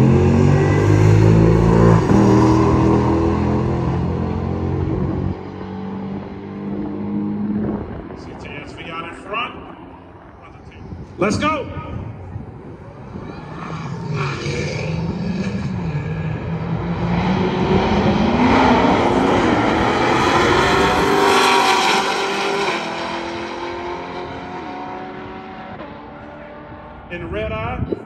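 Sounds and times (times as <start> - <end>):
race cars accelerating: 0.0 - 10.9, 12.6 - 27.9.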